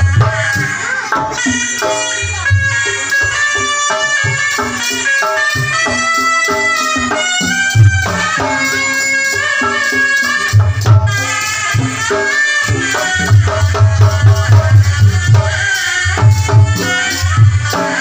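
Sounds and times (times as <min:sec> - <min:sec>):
shawm melody: 0:00.0 - 0:18.0.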